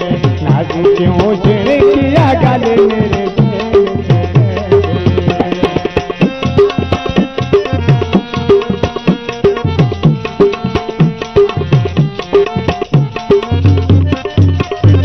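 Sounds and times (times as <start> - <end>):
hand drums fast rhythm: 0.0 - 15.0.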